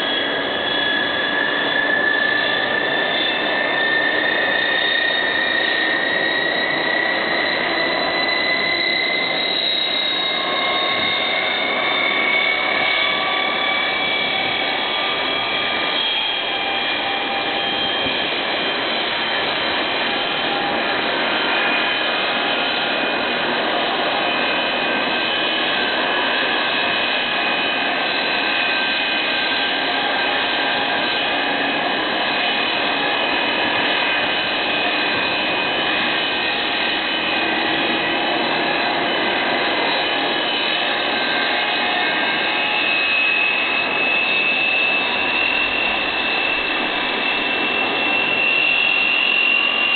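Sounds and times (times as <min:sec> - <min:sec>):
turboprop engines whining: 0:00.0 - 0:49.9.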